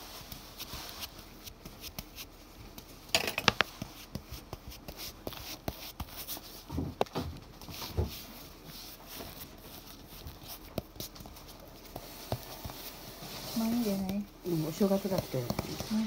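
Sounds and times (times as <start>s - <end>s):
hands patting sticky dough: 0.0s - 16.0s.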